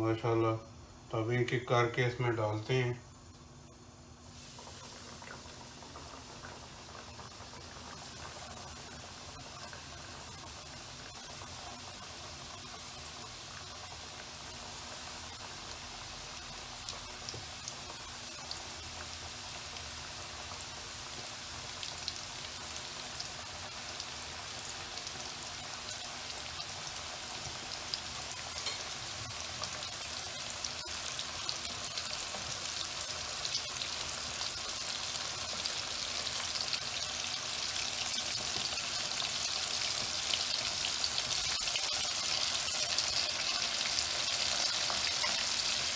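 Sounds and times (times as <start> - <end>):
chicken deep-frying in oil: 4.2 - 45.9.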